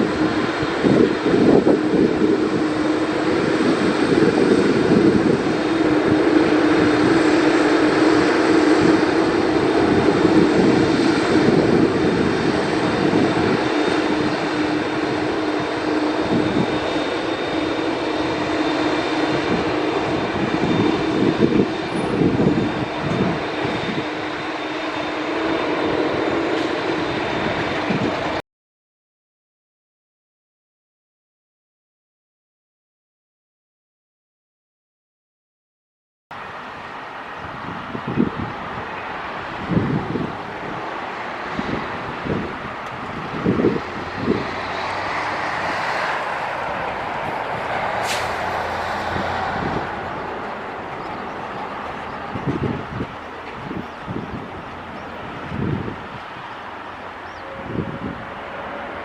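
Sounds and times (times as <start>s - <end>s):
jet engines droning: 0.0s - 28.4s, 36.3s - 59.0s.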